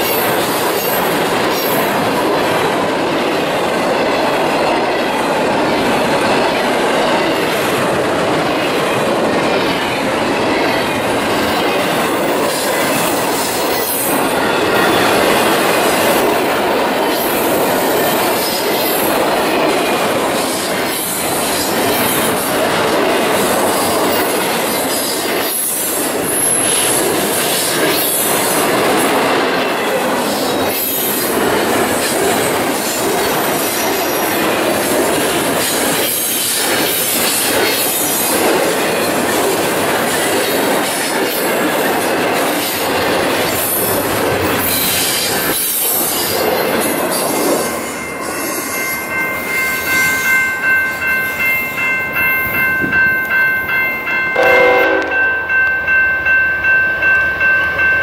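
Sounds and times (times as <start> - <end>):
rattling rail cars: 0.0 - 58.0
steel wheels on rails: 0.0 - 58.0.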